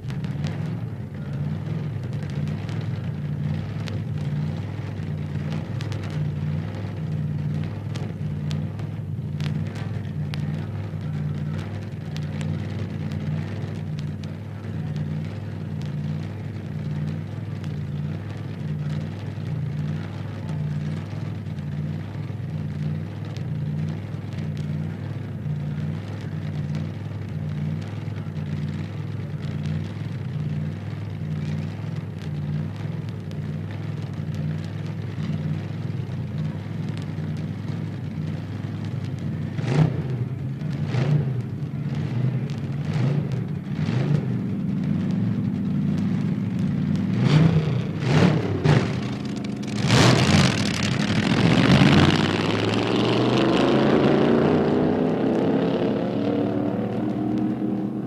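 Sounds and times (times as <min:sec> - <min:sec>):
faint crackle: 0:00.0 - 0:58.0.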